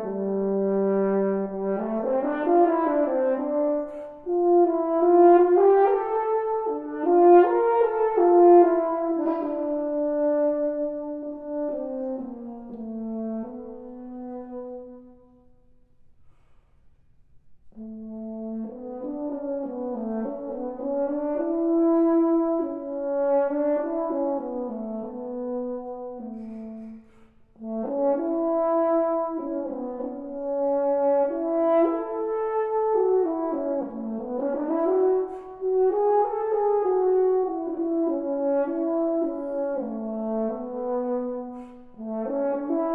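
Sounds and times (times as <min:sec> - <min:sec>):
french horn melody: 0:00.0 - 0:16.6, 0:17.5 - 0:42.9.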